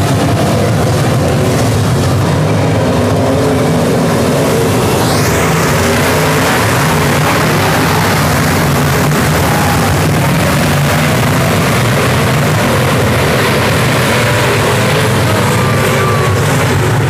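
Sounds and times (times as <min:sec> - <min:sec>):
race car engines rumbling: 0:00.0 - 0:17.0.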